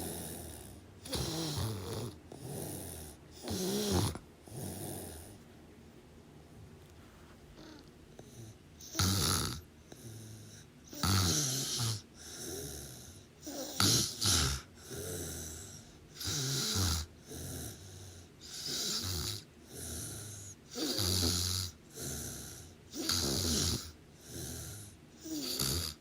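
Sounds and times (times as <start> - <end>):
person snoring: 0.0 - 5.4, 7.6 - 26.0.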